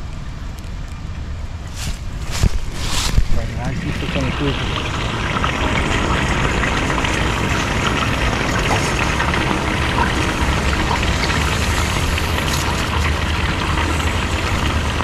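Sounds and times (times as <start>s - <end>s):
water running into drain pipe: 1.7s - 15.0s.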